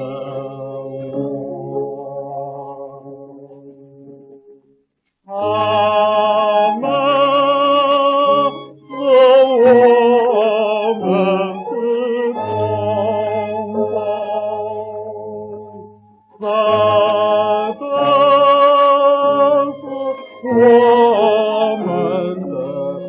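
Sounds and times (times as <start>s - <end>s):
old gramophone record of singing: 0.0s - 4.3s, 5.2s - 23.0s.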